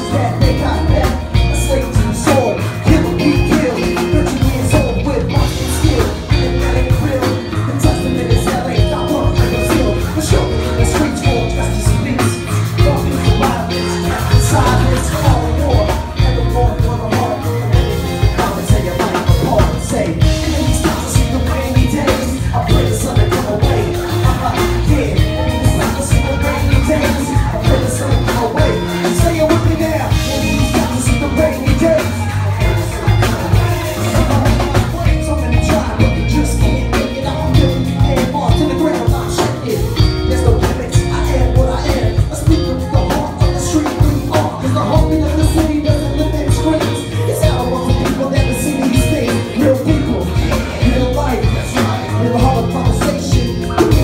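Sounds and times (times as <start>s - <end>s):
hip-hop band playing: 0.0s - 54.0s
person rapping: 0.0s - 54.0s.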